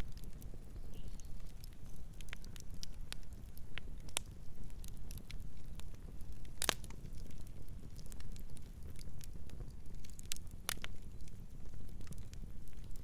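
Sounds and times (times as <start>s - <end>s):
fire low rumble: 0.0s - 13.0s
wood fire popping and snapping: 0.0s - 13.0s.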